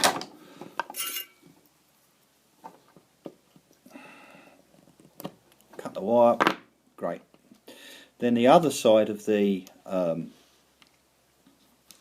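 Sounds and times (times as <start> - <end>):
soft hiss: 0.3 - 12.0.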